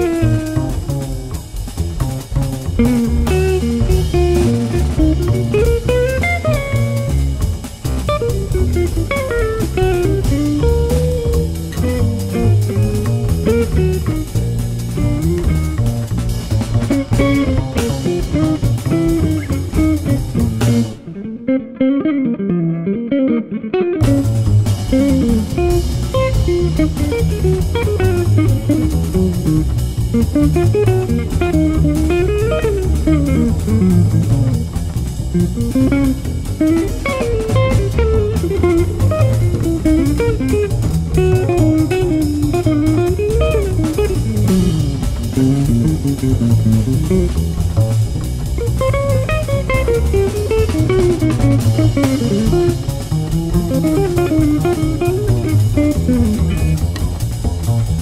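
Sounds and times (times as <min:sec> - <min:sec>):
drums and cymbals: 0:00.0 - 0:21.2, 0:24.0 - 0:58.0
bass: 0:00.0 - 0:58.0
jazz guitar melody: 0:00.0 - 0:58.0.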